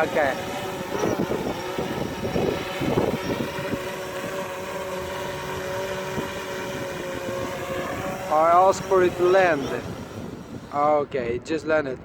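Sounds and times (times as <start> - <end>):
drone propellers humming: 0.0 - 12.0
wind buffeting microphone: 0.0 - 12.0.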